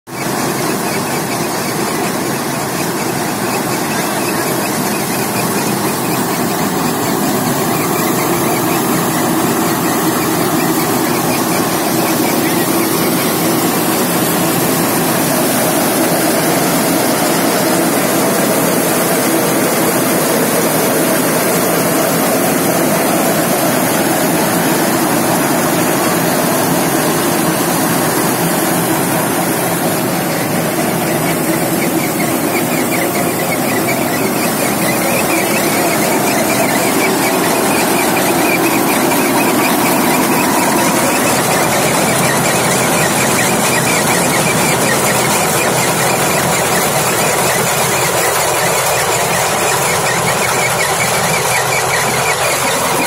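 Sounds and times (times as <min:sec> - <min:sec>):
tractor engine: 0:00.0 - 0:53.0
high mechanical whine: 0:00.1 - 0:53.0
thresher machine din: 0:00.1 - 0:53.0.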